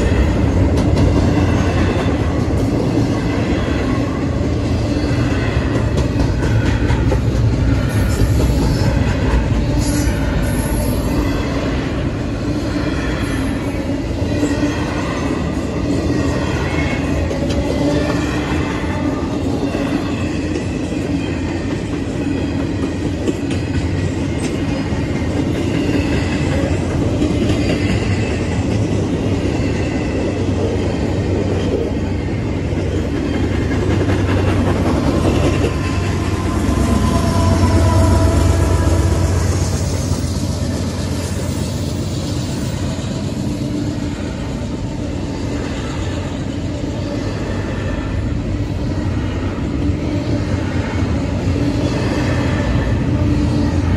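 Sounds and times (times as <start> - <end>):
freight train rumbling and rattling: 0.0 - 53.9.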